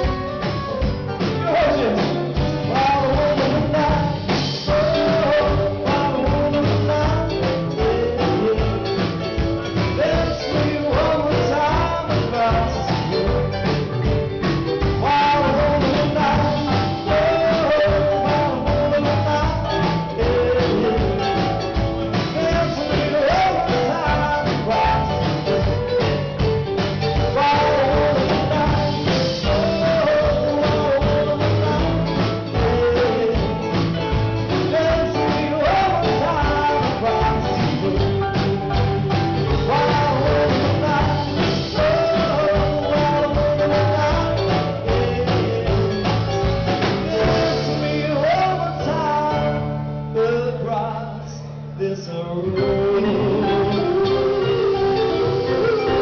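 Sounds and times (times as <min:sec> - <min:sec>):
drums: 0:00.0 - 0:56.0
live rock band: 0:00.0 - 0:56.0
man singing: 0:00.0 - 0:56.0.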